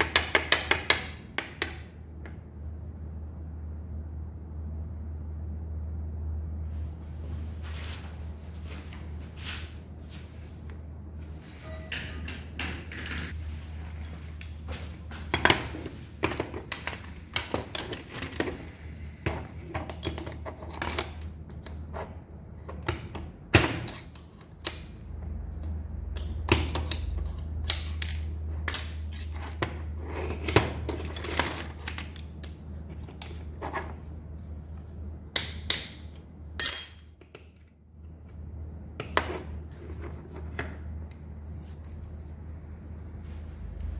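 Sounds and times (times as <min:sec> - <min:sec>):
steady low hum: 0:01.0 - 0:43.9.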